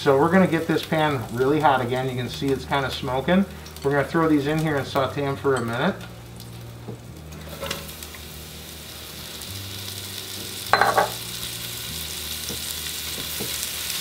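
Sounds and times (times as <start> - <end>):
mushrooms sizzling in hot oil: 0.0 - 14.0.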